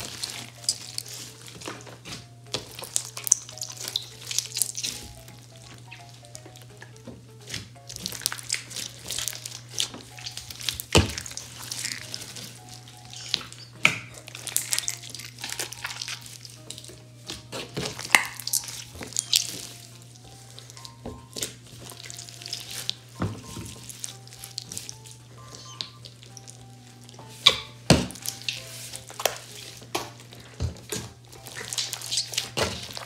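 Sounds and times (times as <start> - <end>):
quiet background music: 0.0 - 33.0
slime crackling and squelching: 0.0 - 33.0
slime popping: 0.0 - 33.0.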